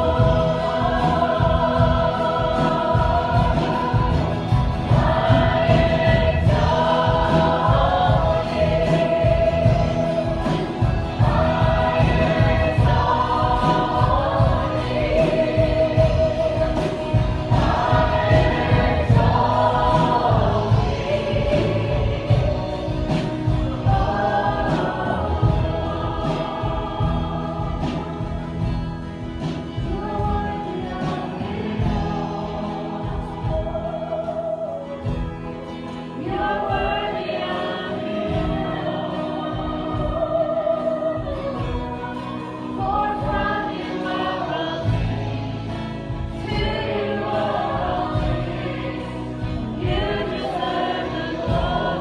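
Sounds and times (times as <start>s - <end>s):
band playing: 0.0s - 52.0s
bass: 0.0s - 52.0s
drums: 0.0s - 52.0s
group of voices singing: 0.0s - 52.0s.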